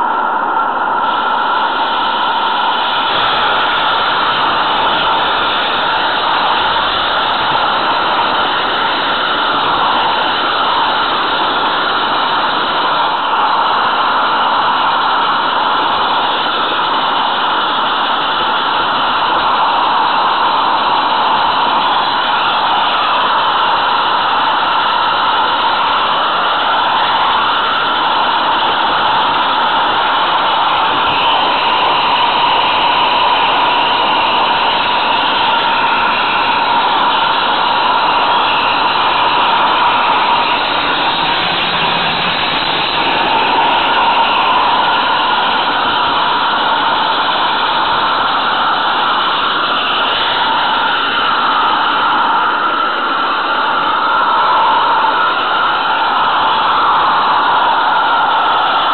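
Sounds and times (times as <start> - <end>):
model train running on track: 0.0 - 58.9.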